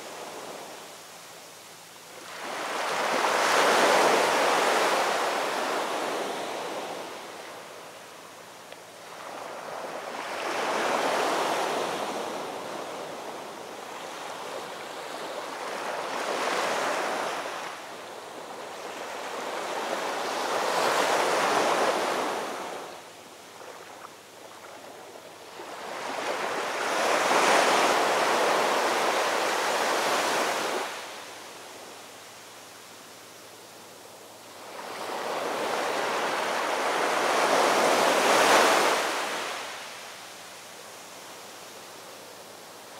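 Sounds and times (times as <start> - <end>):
rushing surf or wind: 0.0 - 42.9.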